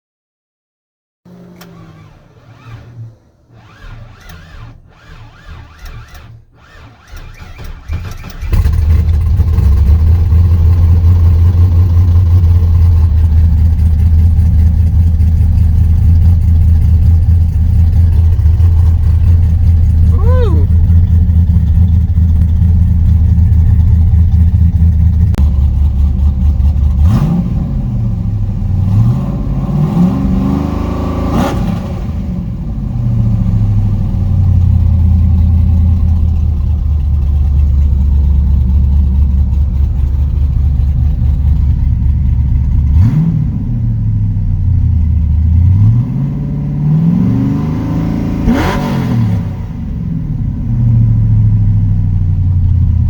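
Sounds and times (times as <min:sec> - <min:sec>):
vee eight engine idling and revving: 0:01.3 - 0:53.0.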